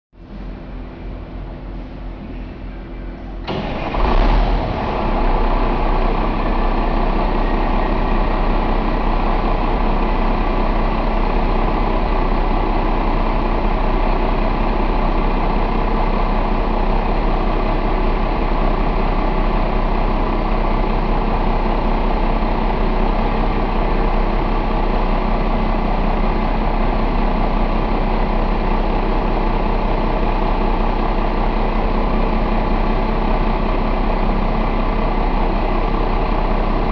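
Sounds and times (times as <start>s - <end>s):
diesel engine starting and idling: 0.2s - 36.9s.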